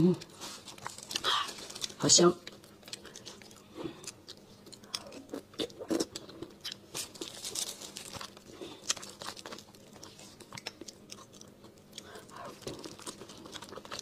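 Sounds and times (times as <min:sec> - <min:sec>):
soft eating sounds: 0:00.0 - 0:14.0.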